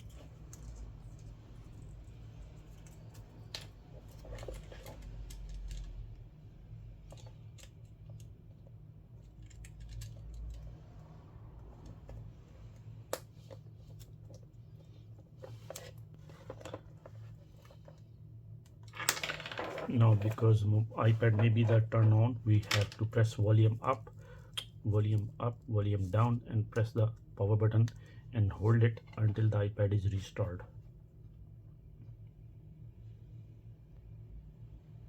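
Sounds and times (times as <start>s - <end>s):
steady low hum: 0.0s - 19.0s, 19.8s - 35.0s.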